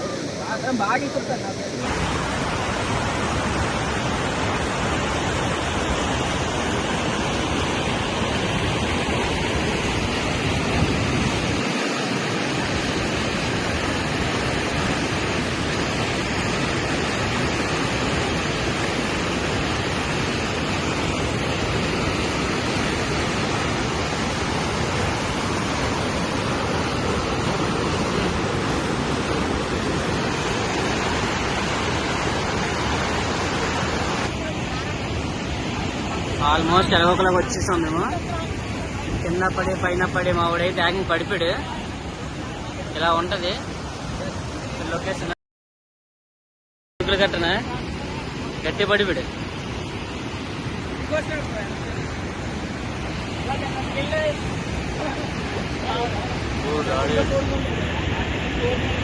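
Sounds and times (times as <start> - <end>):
waterfall rushing: 0.0 - 45.3, 47.0 - 59.0.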